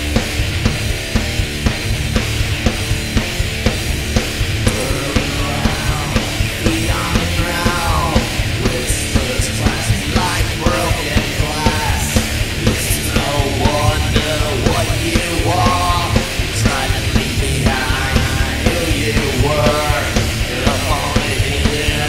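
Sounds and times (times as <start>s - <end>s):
heavy rock music: 0.0s - 22.0s.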